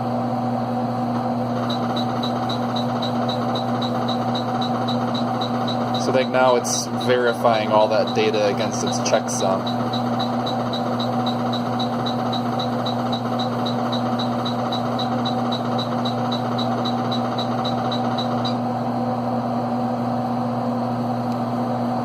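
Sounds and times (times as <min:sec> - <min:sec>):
computer hum and fan noise: 0:00.0 - 0:22.0.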